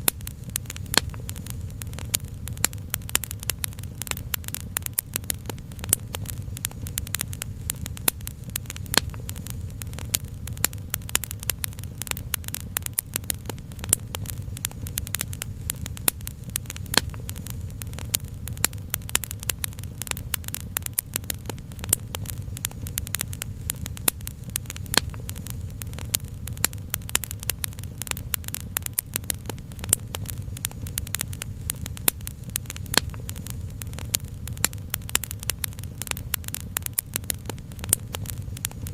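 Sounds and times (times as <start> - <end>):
low steady rumble: 0.0 - 38.9
wood fire crackling and popping: 0.0 - 38.9.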